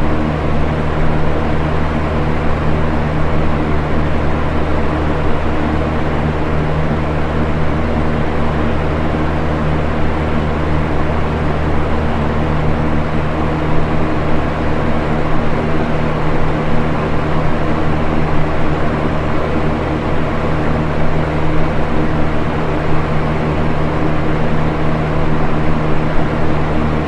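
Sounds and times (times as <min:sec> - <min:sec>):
fan air rushing: 0:00.0 - 0:27.0
fan motor hum: 0:00.0 - 0:27.0.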